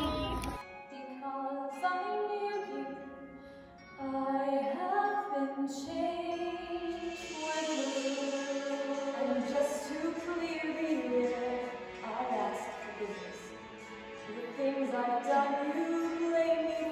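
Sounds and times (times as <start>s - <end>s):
slow music: 0.0s - 16.9s.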